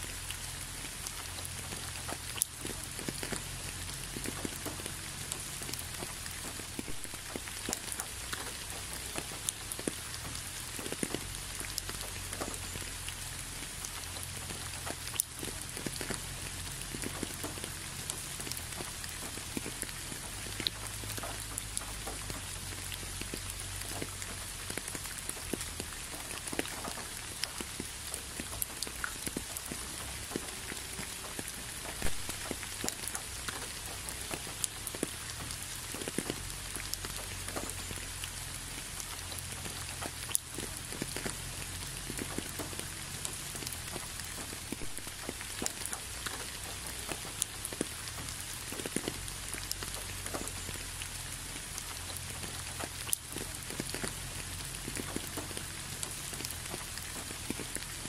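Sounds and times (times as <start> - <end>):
low steady rumble: 0.0 - 58.0
rain hiss: 0.0 - 58.0
raindrops ticking: 0.0 - 58.0.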